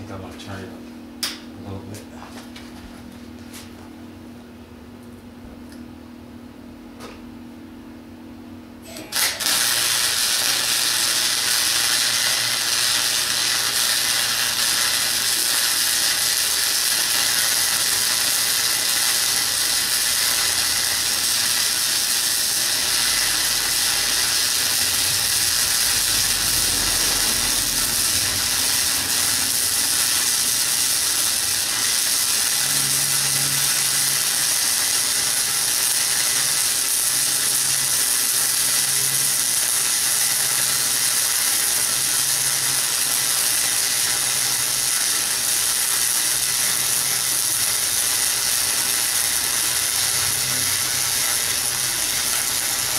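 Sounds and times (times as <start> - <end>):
welding arc crackling: 8.8 - 52.9.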